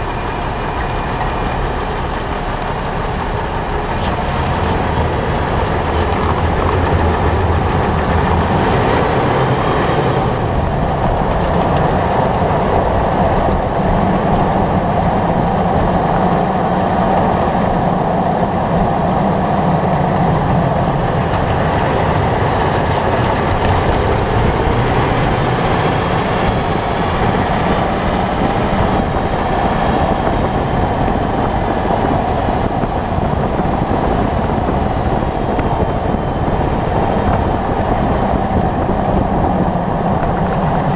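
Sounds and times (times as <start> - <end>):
road and tyre noise: 0.0 - 40.9.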